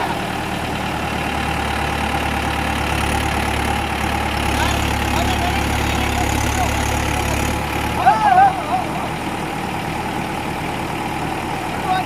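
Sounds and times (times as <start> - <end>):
diesel tractor engine humming: 0.0 - 12.0.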